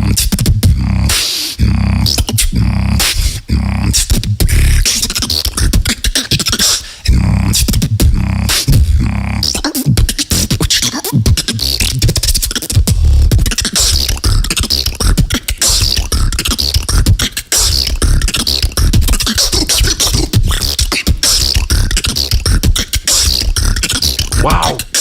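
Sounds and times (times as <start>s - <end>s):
person beatboxing: 0.0s - 25.0s.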